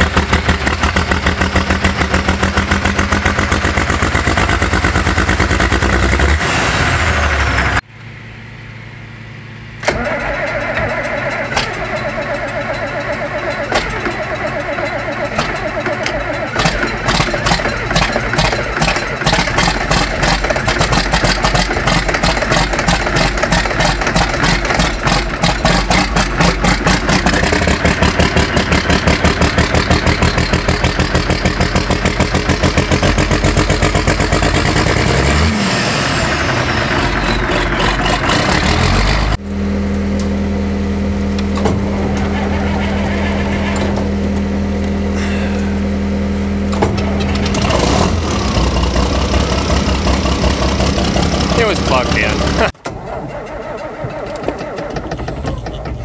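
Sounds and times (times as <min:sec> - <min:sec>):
diesel tractor engine running rough: 0:00.0 - 0:56.0
engine idling with low hum: 0:00.0 - 0:56.0.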